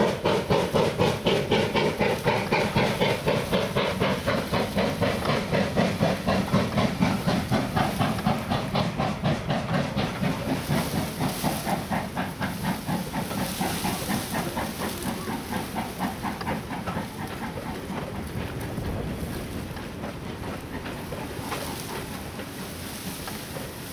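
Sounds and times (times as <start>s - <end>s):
steam locomotive exhaust beating: 0.0s - 23.9s.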